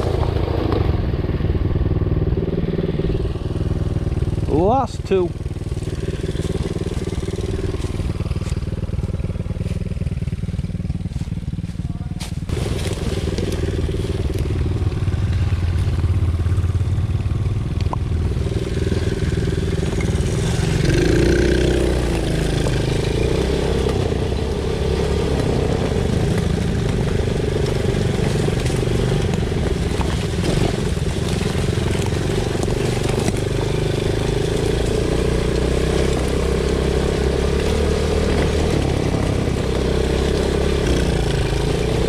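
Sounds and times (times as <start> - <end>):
quad bike engine running: 0.0 - 42.0
tyres crunching over leaves: 5.4 - 16.3, 18.5 - 42.0.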